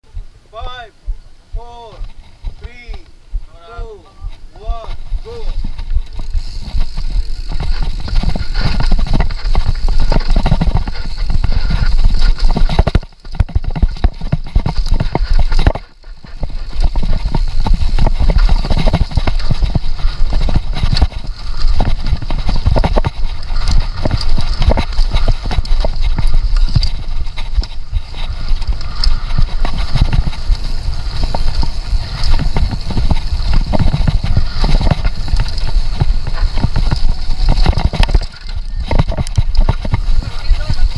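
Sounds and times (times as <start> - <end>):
mountain bike rattling over dirt: 4.4 - 40.9.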